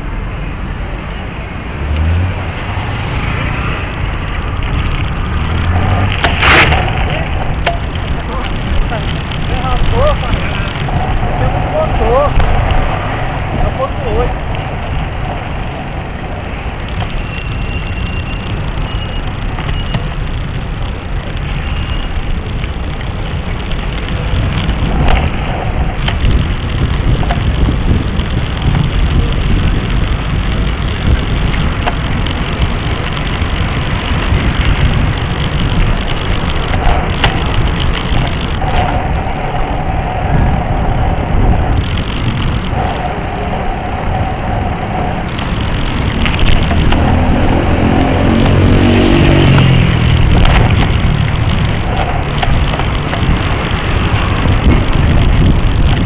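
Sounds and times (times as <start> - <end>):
tyres crackling over pavement: 0.0 - 56.0
wind and road noise: 0.0 - 56.0.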